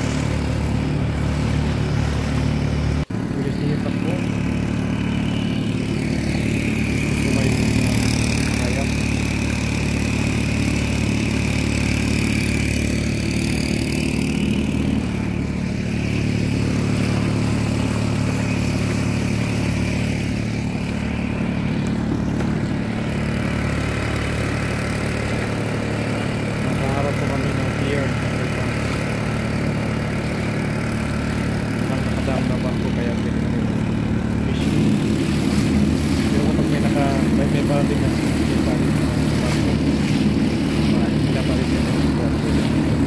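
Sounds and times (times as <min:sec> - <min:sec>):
small boat engine running: 0:00.0 - 0:43.0.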